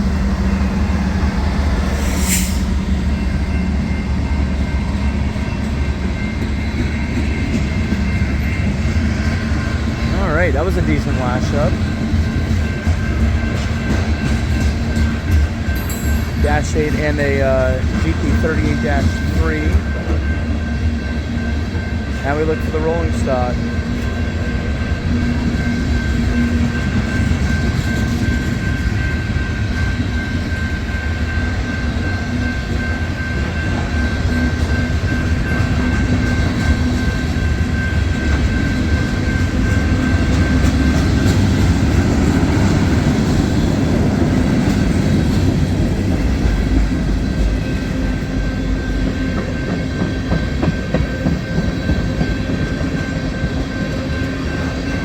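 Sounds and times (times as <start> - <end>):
train wheels rumbling on rails: 0.0 - 55.0
clickety-clack at rail joints: 3.1 - 55.0.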